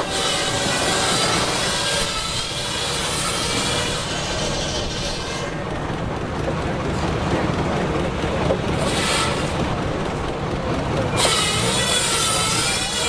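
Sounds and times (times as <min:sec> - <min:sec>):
steam engine rumbling: 0:00.0 - 0:13.0.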